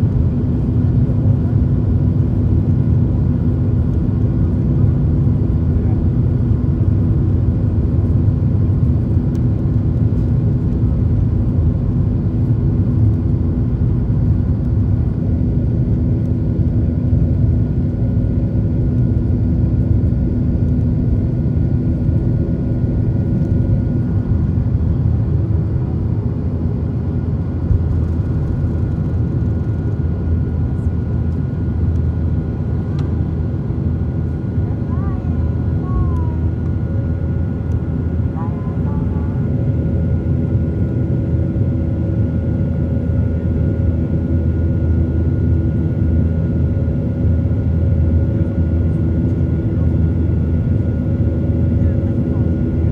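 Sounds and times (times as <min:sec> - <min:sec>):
jet engines rumbling at takeoff: 0:00.0 - 0:52.9.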